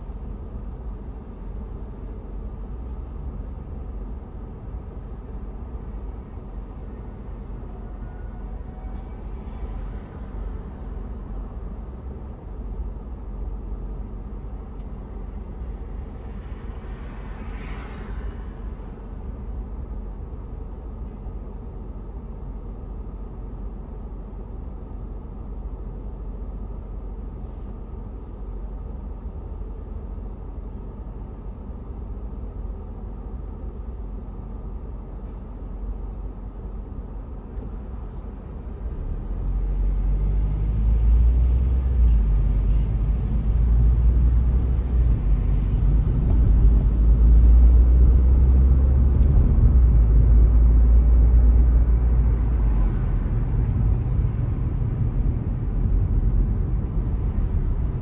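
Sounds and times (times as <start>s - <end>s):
car engine low rumble: 0.0s - 58.0s
engine and tyre noise: 0.0s - 58.0s.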